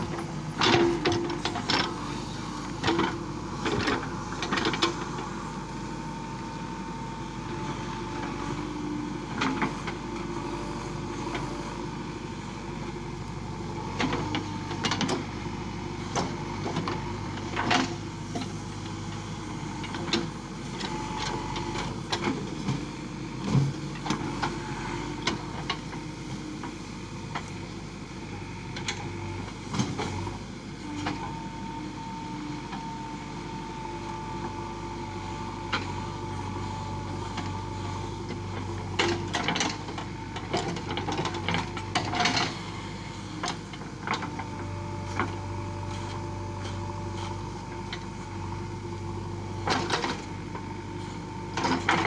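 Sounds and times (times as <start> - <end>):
diesel engine under load: 0.0 - 52.0.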